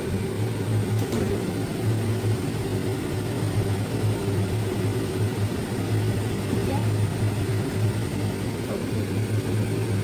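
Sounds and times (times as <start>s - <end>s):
kitchen appliance fan running: 0.0s - 10.0s.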